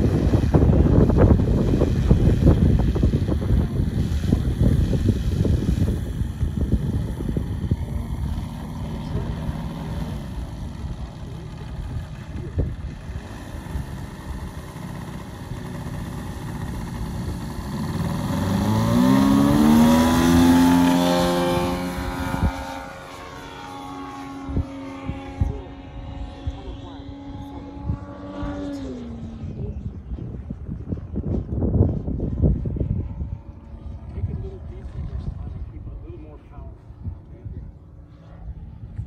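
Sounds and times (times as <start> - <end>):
model plane engine and propeller: 0.0 - 39.0
wind buffeting microphone: 0.0 - 39.0.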